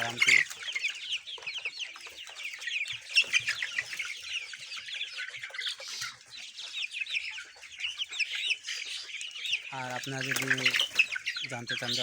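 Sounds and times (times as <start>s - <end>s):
chicks cheeping and clucking: 0.0s - 12.0s.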